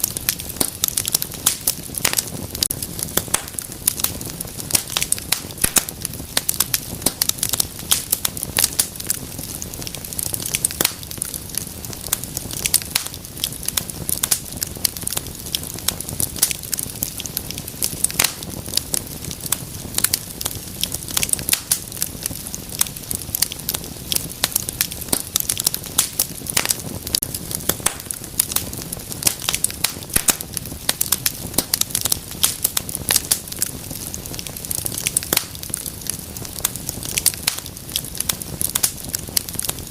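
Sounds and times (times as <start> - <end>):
low rumble of burning: 0.0 - 39.9
wood fire crackling and popping: 0.0 - 39.9.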